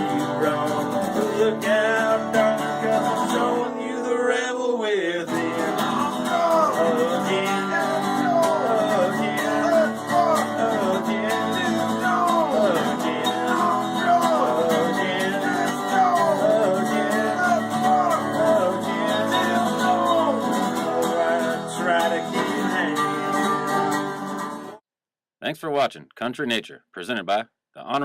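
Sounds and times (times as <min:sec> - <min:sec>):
acoustic guitar country song: 0:00.0 - 0:24.8.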